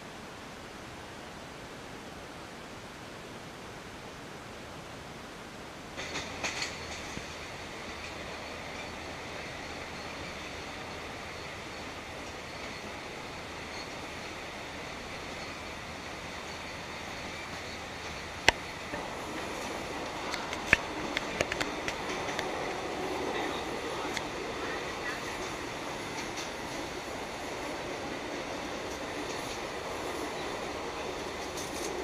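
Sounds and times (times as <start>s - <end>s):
train carriage rumbling: 5.9s - 32.0s.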